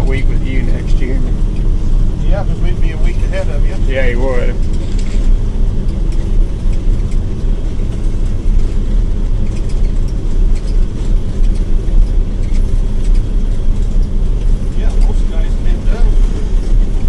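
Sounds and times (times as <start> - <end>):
combine engine and machinery rumble: 0.0 - 17.0.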